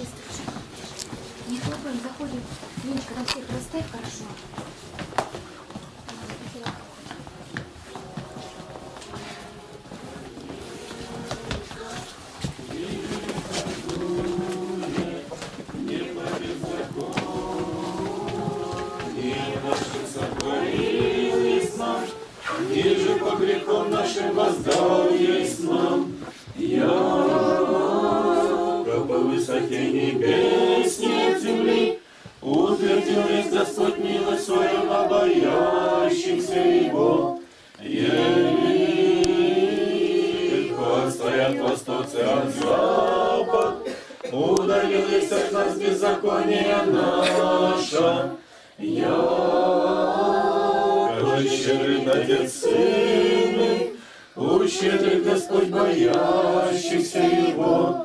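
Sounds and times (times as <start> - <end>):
congregation singing a hymn: 7.5 - 58.0.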